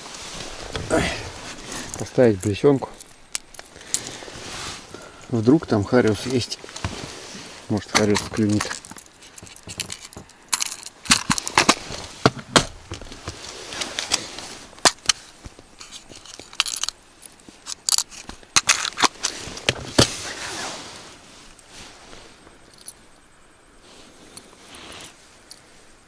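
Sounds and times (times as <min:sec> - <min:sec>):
rustling handling noise: 0:00.0 - 0:26.0.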